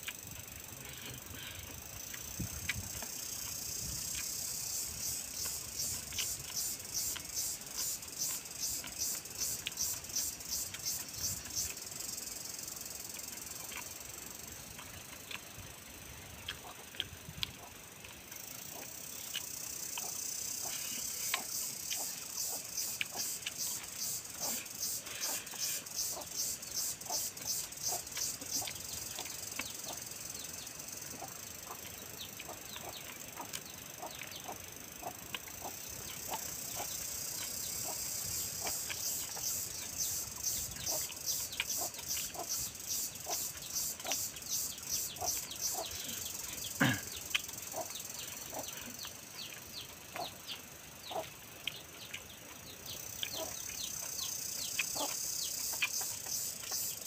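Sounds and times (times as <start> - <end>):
high-pitched pulsing insect chorus: 0.1 - 16.4, 18.4 - 51.2, 52.7 - 57.0
wet chewing and lip-smacking: 1.9 - 57.0.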